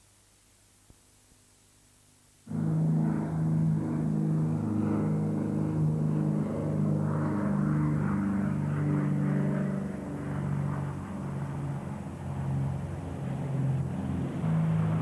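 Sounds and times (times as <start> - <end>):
propeller aircraft engines droning: 2.5 - 15.0.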